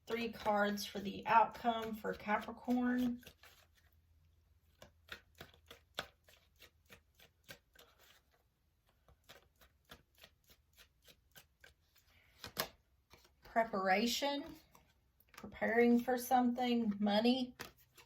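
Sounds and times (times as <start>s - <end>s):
cards being shuffled: 0.1s - 4.0s, 4.6s - 13.6s, 14.4s - 16.2s, 16.8s - 18.0s.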